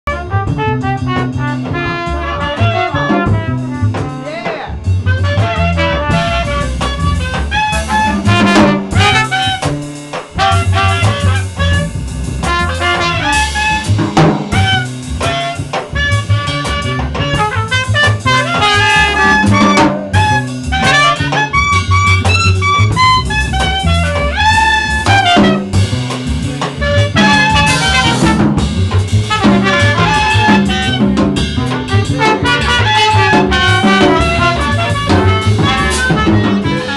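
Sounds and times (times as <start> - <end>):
trumpet: 0.0 - 36.9
upright bass: 0.0 - 36.9
congas: 0.1 - 36.9
drum kit: 0.1 - 36.9
saxophone: 0.1 - 36.9.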